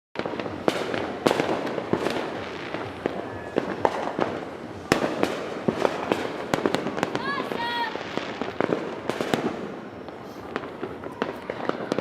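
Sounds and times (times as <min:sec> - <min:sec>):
distant fireworks explosions: 0:00.2 - 0:12.0
firecracker bangs: 0:00.2 - 0:12.0.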